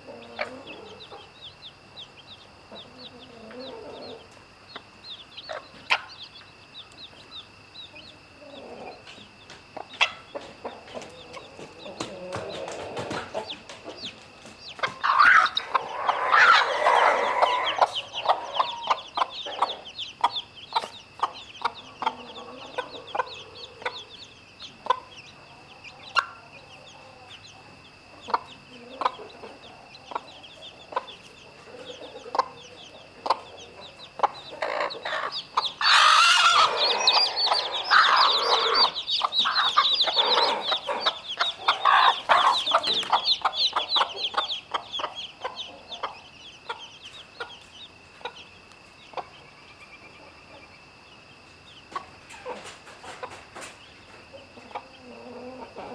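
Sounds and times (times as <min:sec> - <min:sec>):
chickens squawking: 0:00.0 - 0:07.0, 0:09.8 - 0:50.7, 0:54.3 - 0:55.9
hen clucking: 0:00.0 - 0:50.8, 0:51.8 - 0:55.9
chicks peeping: 0:00.0 - 0:55.9.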